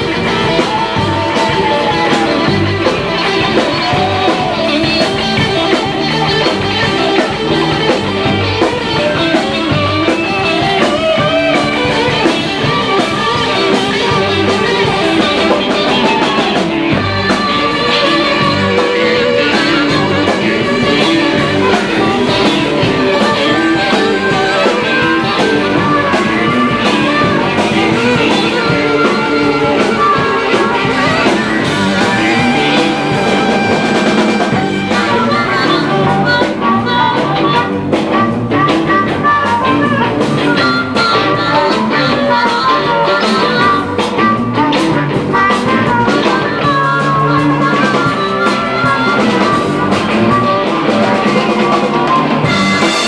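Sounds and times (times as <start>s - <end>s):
blues-rock band playing: 0.0s - 53.0s
drum kit: 0.0s - 53.0s
guitar: 0.0s - 53.0s.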